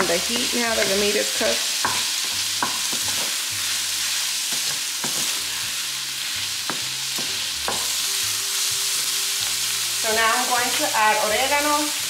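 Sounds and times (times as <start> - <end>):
sausage sizzling in a pan: 0.0 - 12.0.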